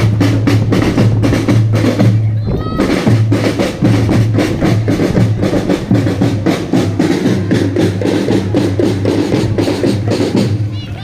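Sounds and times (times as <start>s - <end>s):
marching drum band: 0.0s - 11.0s.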